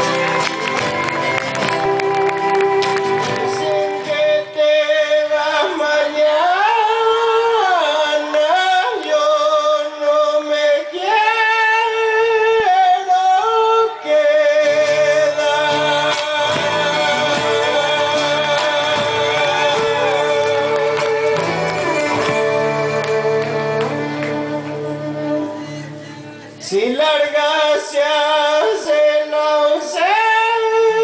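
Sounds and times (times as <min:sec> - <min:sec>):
low band accompaniment: 0:00.0 - 0:28.3
person singing folk song: 0:00.0 - 0:31.0.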